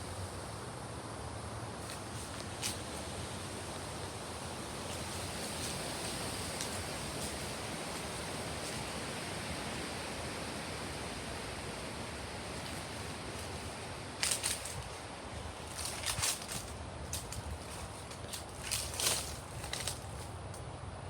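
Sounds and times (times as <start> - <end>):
wind blowing: 0.0 - 20.5.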